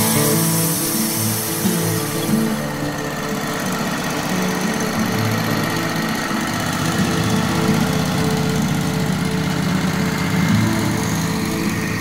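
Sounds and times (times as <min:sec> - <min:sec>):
sawmill cutting a log: 0:00.0 - 0:12.0.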